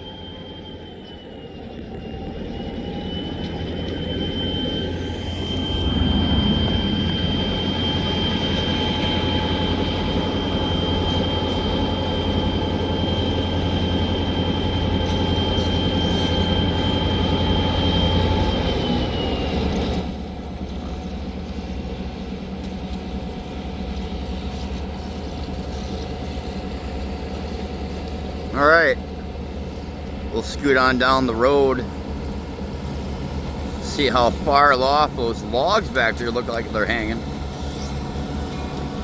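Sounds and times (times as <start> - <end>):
freight train rumble: 0.0 - 39.0
high steady whine: 0.0 - 39.0.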